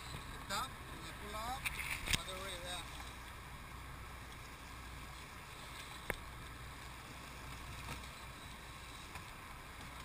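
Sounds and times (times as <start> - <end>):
boat engine drone: 0.0 - 10.0
water noise: 0.0 - 10.0.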